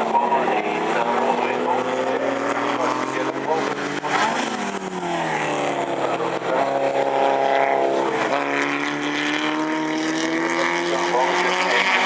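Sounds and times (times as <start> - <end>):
racing car engines passing: 0.0 - 12.0.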